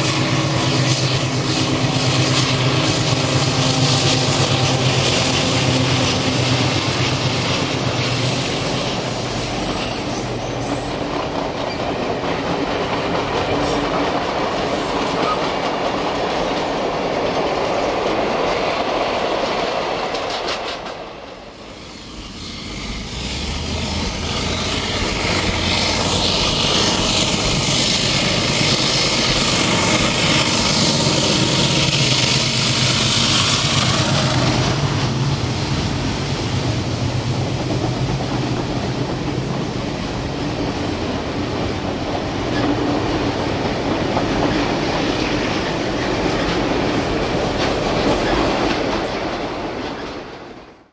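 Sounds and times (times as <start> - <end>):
diesel locomotive engine drone: 0.0 - 50.9
train wheels on rails: 0.0 - 50.9.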